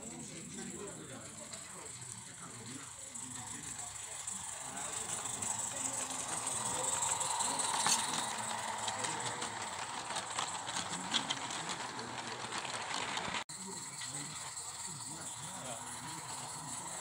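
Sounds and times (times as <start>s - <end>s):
wheels clicking on track: 0.0s - 17.0s
steam hissing: 0.6s - 11.7s, 13.5s - 17.0s.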